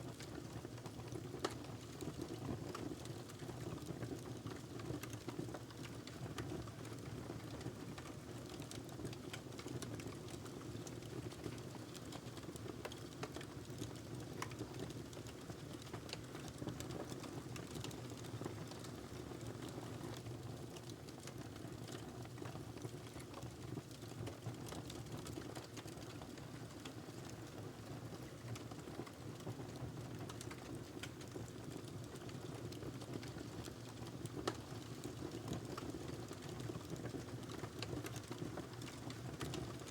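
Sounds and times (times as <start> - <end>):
wood fire crackling in fireplace: 0.0 - 39.9.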